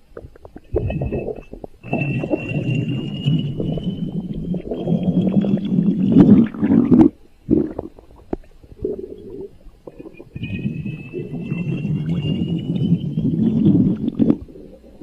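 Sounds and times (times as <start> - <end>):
quiet gurgles and clicks: 0.0 - 15.0
stomach growling: 0.0 - 15.0.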